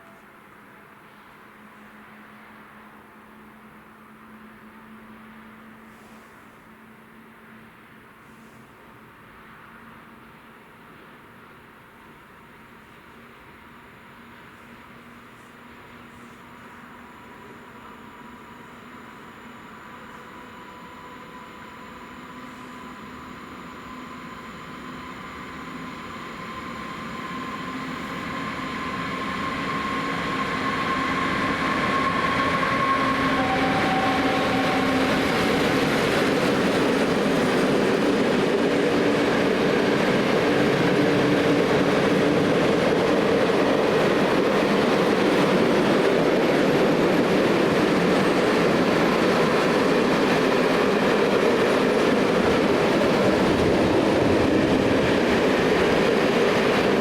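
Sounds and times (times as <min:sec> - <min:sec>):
freight train rumbling past: 0:08.9 - 0:57.0.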